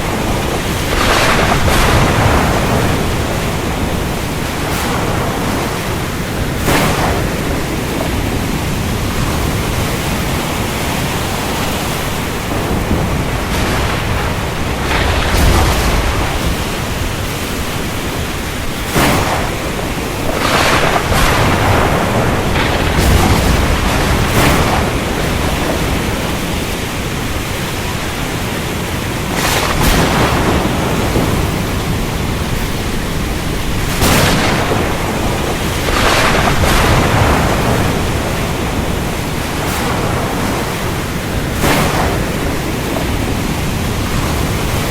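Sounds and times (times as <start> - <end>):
heavy rain: 0.0 - 44.9
low thunder rumbles: 0.0 - 44.9
sharp thunder cracks: 0.0 - 44.9.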